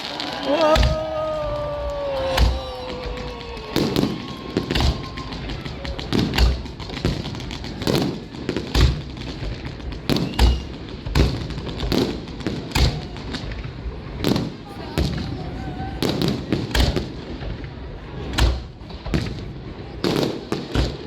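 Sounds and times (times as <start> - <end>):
fireworks booming: 0.0 - 21.0
whistling firework: 0.0 - 21.0.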